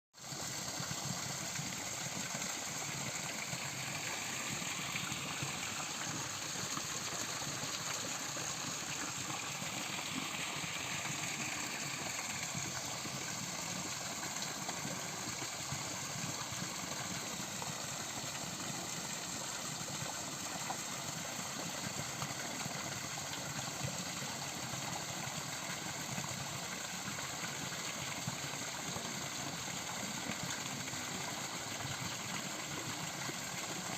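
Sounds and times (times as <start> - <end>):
flowing water rushing: 0.2 - 33.9.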